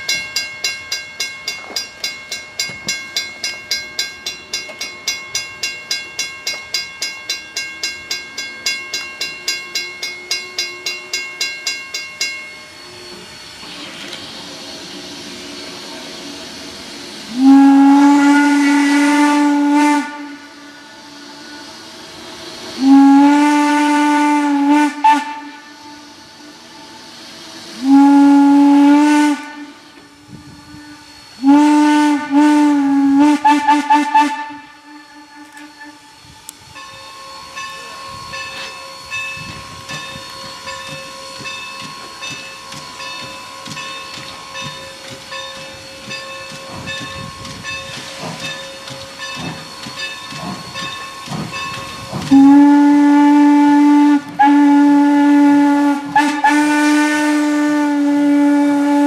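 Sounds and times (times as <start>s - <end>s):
steam locomotive chime whistle: 0.0s - 59.0s.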